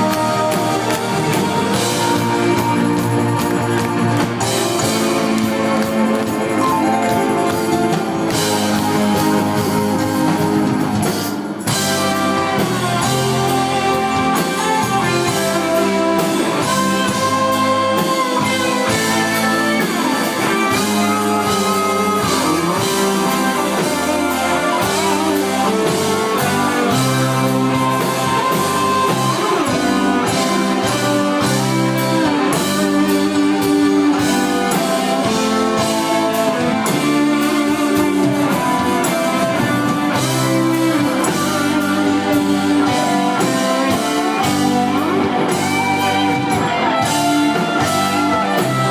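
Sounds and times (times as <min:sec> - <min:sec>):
bass guitar: 0:00.0 - 0:48.9
drums: 0:00.0 - 0:48.9
electric guitar lead with bending notes: 0:00.0 - 0:48.9.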